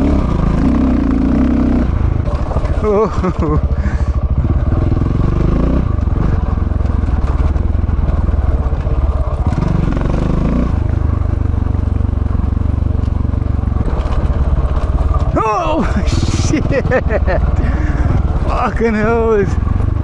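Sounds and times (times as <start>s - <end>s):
motorcycle engine under load: 0.0s - 20.0s.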